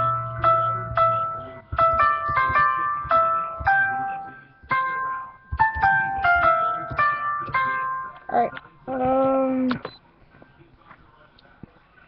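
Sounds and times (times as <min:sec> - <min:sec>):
virtual piano melody: 0:00.0 - 0:09.7.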